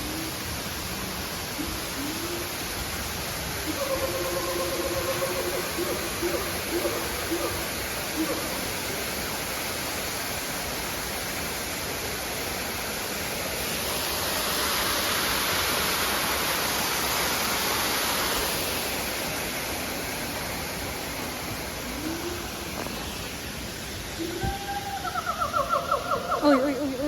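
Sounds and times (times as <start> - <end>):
water rushing: 0.0 - 27.0.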